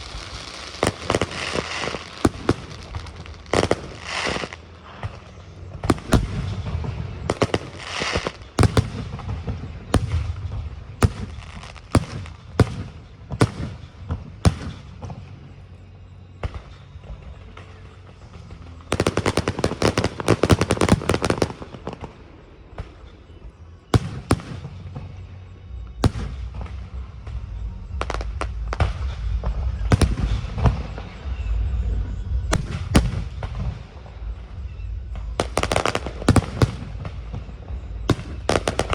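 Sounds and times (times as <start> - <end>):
firework crackles: 0.0 - 38.9
fireworks bursting with sharp bangs: 0.0 - 38.9.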